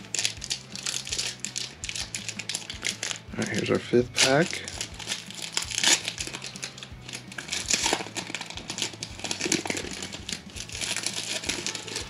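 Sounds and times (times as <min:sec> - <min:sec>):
cards clicking: 0:00.0 - 0:12.0
wrapper crinkling: 0:00.0 - 0:12.0.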